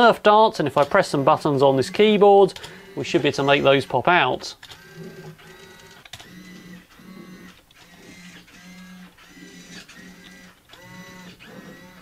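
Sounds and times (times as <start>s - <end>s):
servos whirring: 0.7s - 12.0s.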